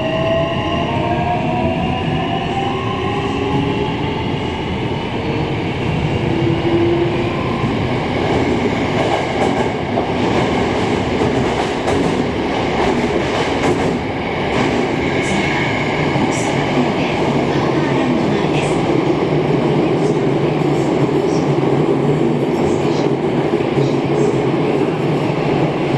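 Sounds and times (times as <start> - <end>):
train wheels rumbling on rail: 0.0 - 25.9.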